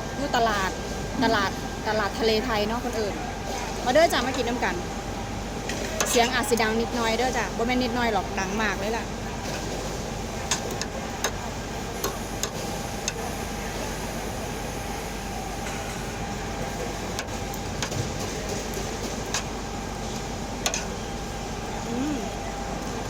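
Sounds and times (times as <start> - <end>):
busy market din: 0.0 - 19.8.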